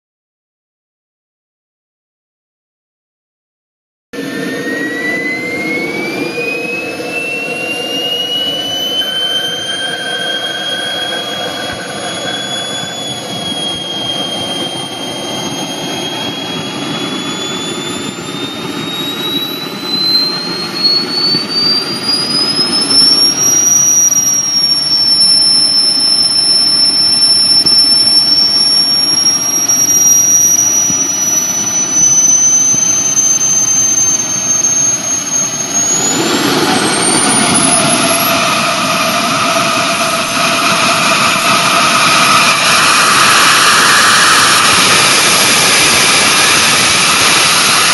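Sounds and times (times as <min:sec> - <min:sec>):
jet engine rushing noise: 0:04.2 - 0:47.9
model jet engine whine: 0:04.2 - 0:47.9.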